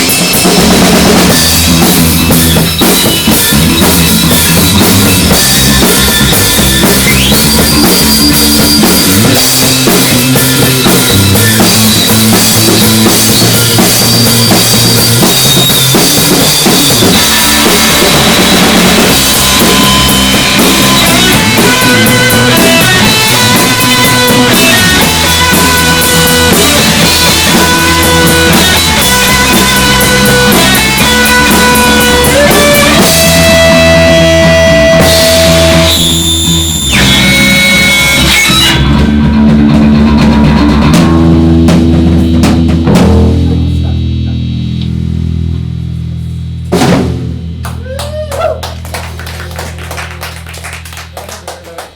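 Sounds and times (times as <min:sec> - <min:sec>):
bass guitar line: 0:00.0 - 0:51.9
drum kit beat: 0:00.0 - 0:51.9
noisy electric guitar: 0:00.0 - 0:51.9.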